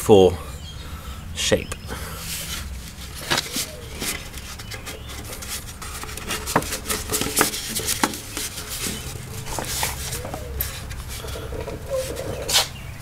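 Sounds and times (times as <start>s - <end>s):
paper rustling and crinkling: 2.2s - 12.8s
paper crackles: 2.3s - 12.8s.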